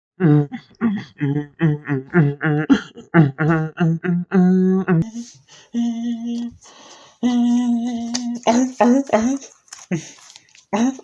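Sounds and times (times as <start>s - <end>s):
person singing sing-song syllables: 0.2s - 9.5s.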